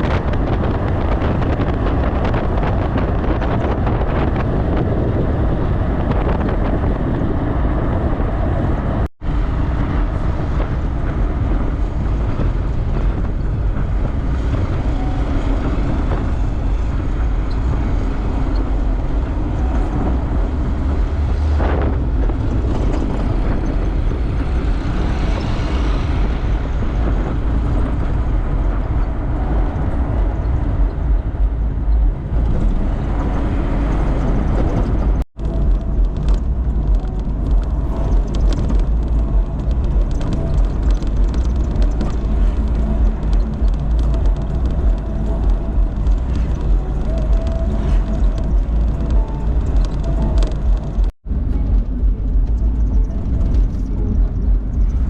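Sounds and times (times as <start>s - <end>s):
vehicle engine rumble: 0.0s - 55.0s
wind on microphone: 0.0s - 55.0s.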